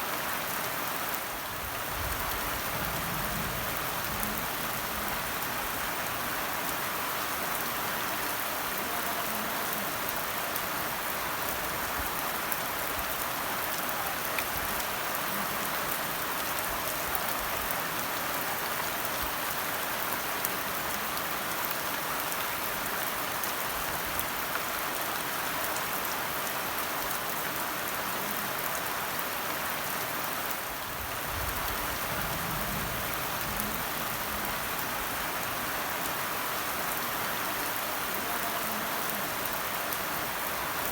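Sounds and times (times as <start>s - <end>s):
raindrops striking a surface: 0.0s - 40.9s
steady rain hiss: 0.0s - 40.9s.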